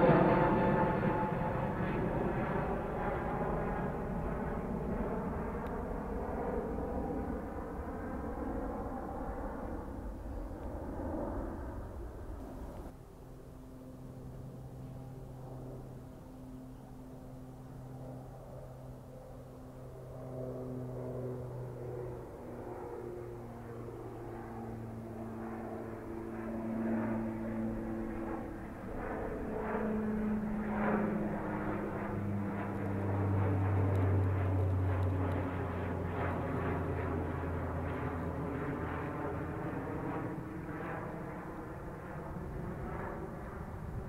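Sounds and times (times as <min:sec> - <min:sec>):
propeller plane passing overhead: 0:00.0 - 0:44.0.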